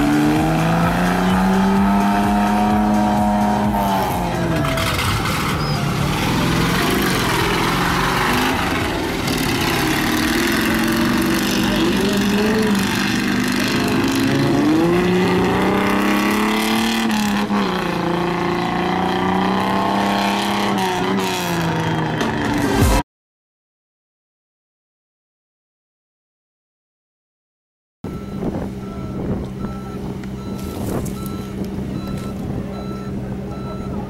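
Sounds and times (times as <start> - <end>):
crowd noise: 0.0 - 23.0, 28.1 - 34.0
off-road engines revving: 0.0 - 23.0, 28.1 - 34.0.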